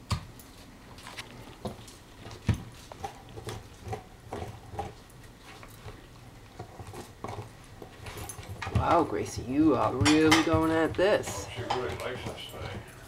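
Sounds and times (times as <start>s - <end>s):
dog gnawing a bone: 0.4s - 8.9s, 10.2s - 13.0s.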